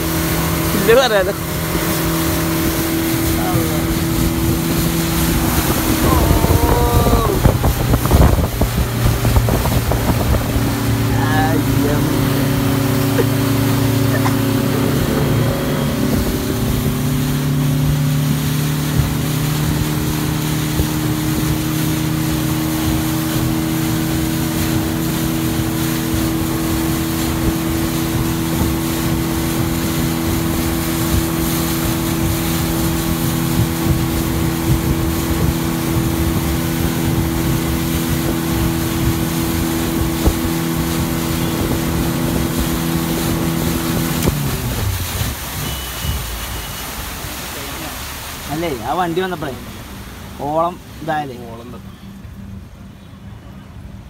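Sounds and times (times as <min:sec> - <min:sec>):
speedboat engine running: 0:00.0 - 0:54.0
water rushing along hull: 0:00.0 - 0:54.0.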